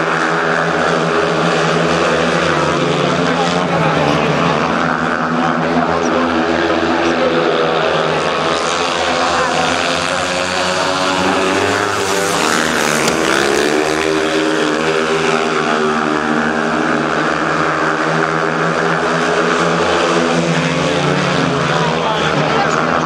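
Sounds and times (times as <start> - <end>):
motorcycle engines at full throttle: 0.0 - 23.0.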